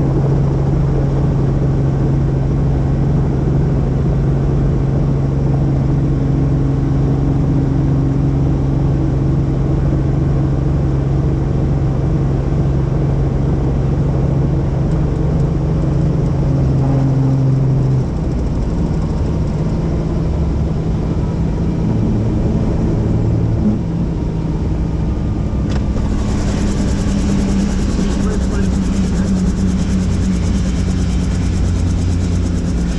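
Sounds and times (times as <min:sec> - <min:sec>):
helicopter engine and rotor drone: 0:00.0 - 0:32.9.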